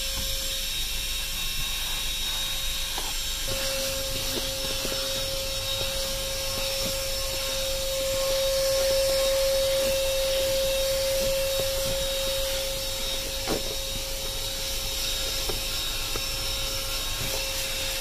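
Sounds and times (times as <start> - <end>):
handheld vacuum whining hum: 0.0 - 18.0.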